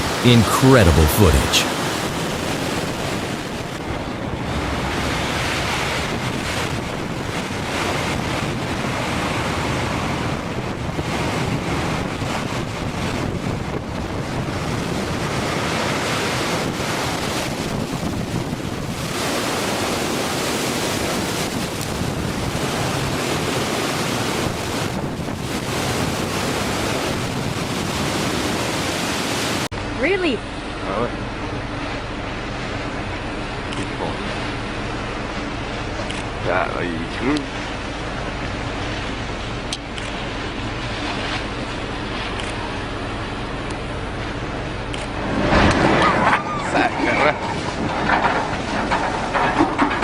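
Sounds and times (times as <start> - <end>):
waves washing over deck: 0.0 - 50.0.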